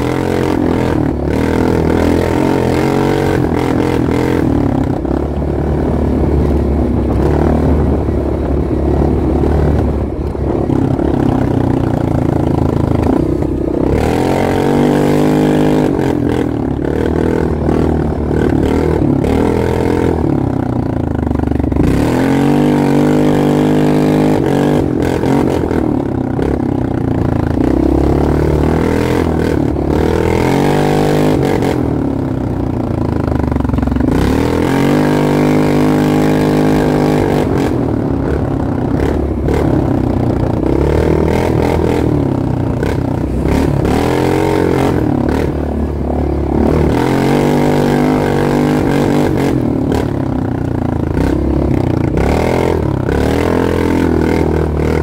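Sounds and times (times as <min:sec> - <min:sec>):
atv engine revving: 0:00.0 - 0:55.0
vehicle rattling over bumps: 0:00.0 - 0:55.0.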